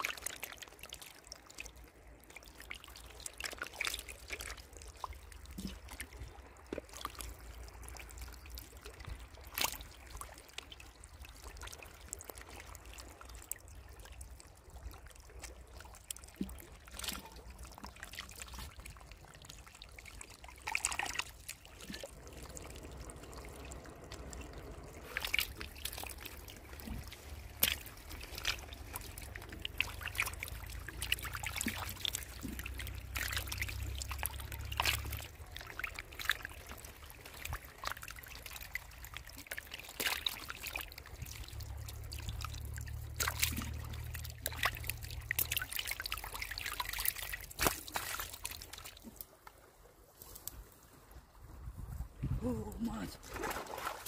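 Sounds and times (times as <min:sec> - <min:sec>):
water pouring from pipes: 0:00.0 - 0:49.4
fish splashing in water: 0:00.0 - 0:49.8, 0:53.2 - 0:54.0.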